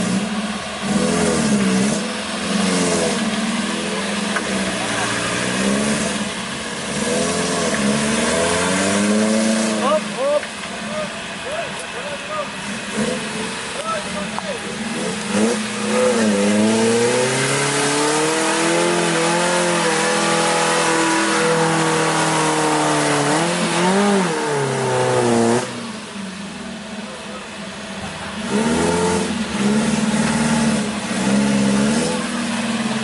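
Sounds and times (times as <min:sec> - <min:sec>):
jeep engine revving: 0:00.0 - 0:33.0.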